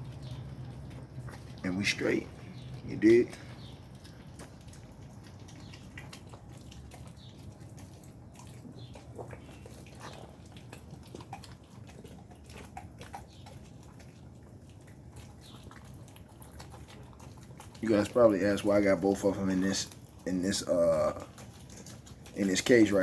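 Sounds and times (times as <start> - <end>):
puppies chewing on meat: 0.0 - 23.0.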